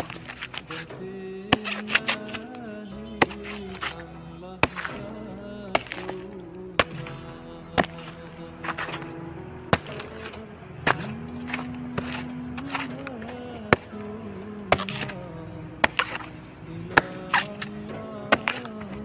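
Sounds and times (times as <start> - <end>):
melody with singing voice: 0.0 - 19.0.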